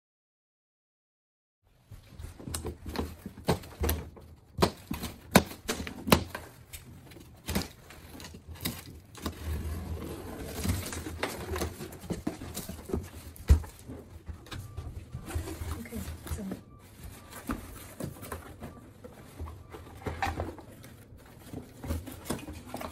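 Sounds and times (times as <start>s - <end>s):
cardboard flaps scraping and rustling: 1.8s - 22.9s.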